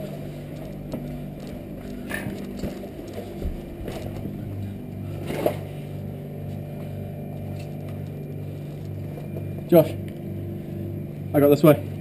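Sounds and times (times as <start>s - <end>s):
industrial machinery humming: 0.0s - 12.0s.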